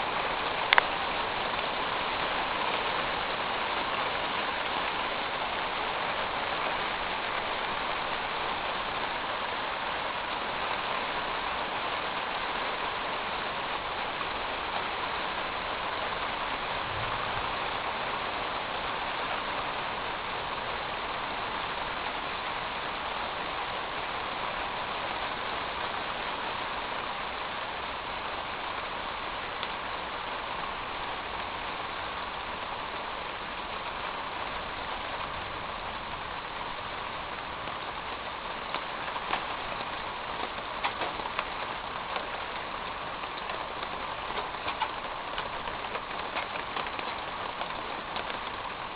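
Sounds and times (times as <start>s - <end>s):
rain on a metal roof: 0.0s - 48.9s.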